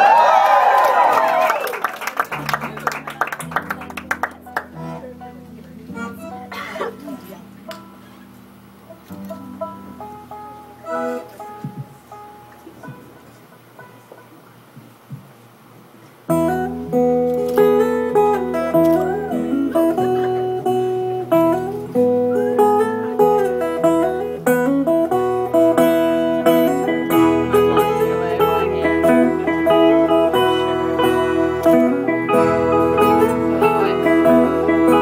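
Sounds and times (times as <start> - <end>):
strummed acoustic guitar: 2.4 - 14.7, 16.3 - 35.0
picked banjo melody: 2.5 - 14.8, 16.3 - 35.0.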